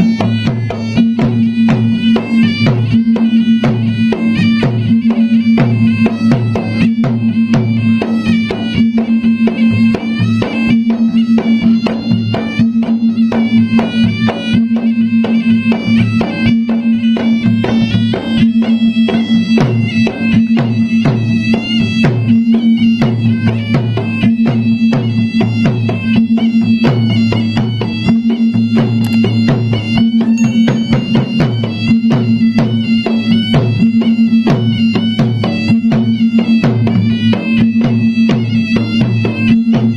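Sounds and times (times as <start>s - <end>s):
drums beaten in fast rhythm: 0.0s - 39.9s
shrill reed pipe melody: 0.0s - 39.9s.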